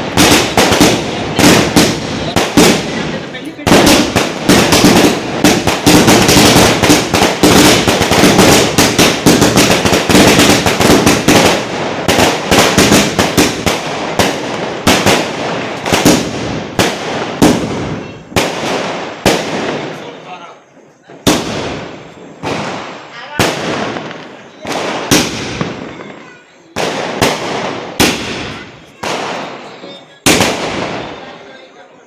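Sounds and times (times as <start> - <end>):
fireworks shots and bangs: 0.0 - 31.8.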